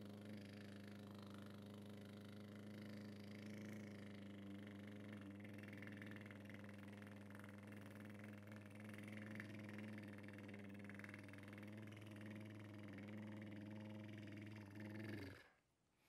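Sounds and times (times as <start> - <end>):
man doing lip trill: 0.0 - 15.4.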